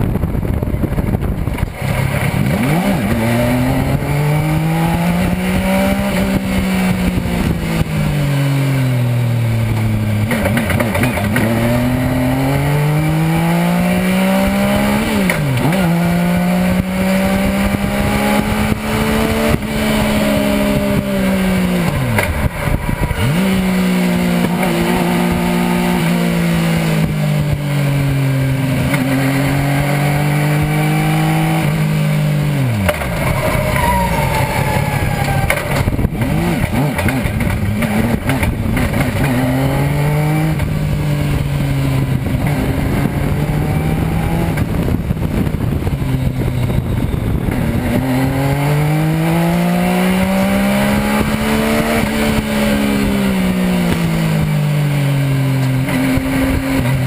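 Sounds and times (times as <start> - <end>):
racing engine revving: 1.5 - 46.4, 47.3 - 57.0.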